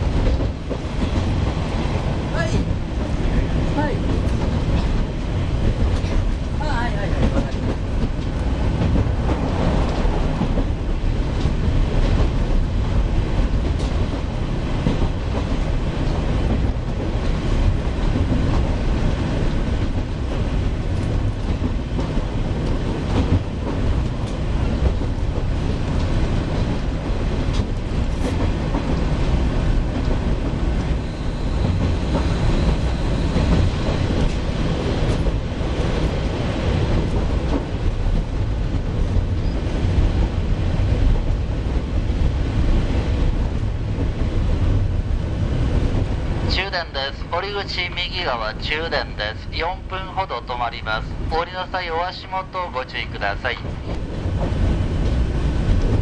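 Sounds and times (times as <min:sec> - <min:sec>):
railcar running rumble: 0:00.0 - 0:56.0.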